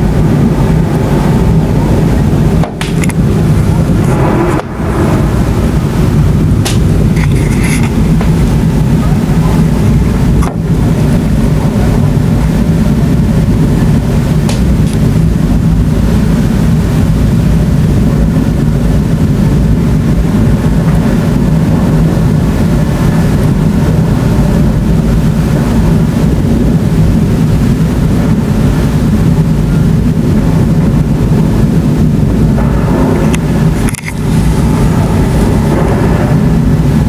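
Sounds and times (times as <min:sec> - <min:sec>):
deep thunder rumble: 0:00.0 - 0:37.0.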